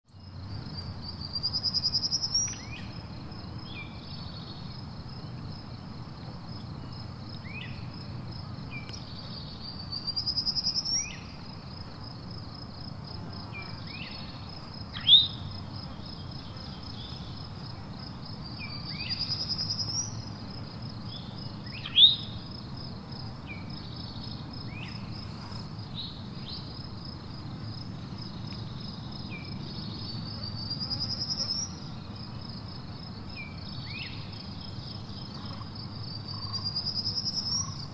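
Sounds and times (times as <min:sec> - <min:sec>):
insects trilling: 0:00.2 - 0:37.9.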